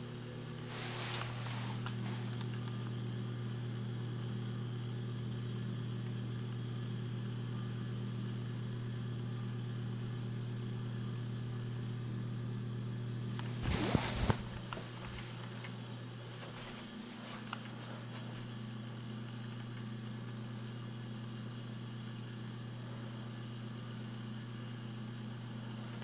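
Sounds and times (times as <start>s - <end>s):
electrical machine humming: 0.0s - 26.0s.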